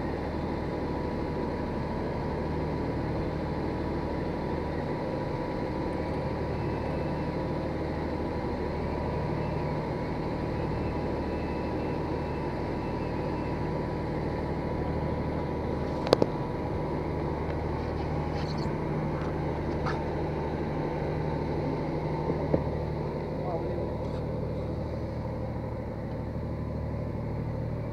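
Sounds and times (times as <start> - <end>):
low motor hum: 0.0 - 27.9.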